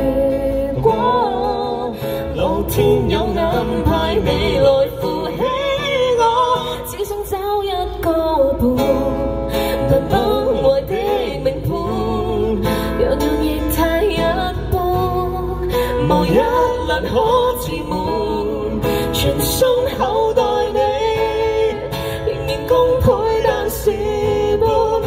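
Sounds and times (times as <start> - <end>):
acoustic guitar: 0.0 - 25.0
woman singing: 0.0 - 25.0.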